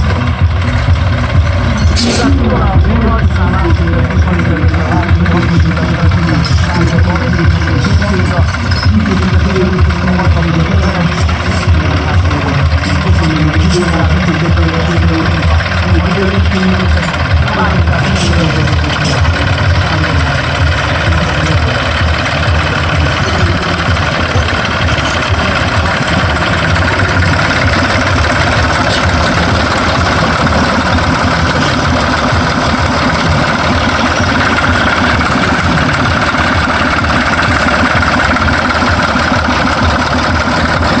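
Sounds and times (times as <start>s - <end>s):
tractor diesel engine idling: 0.0s - 41.0s.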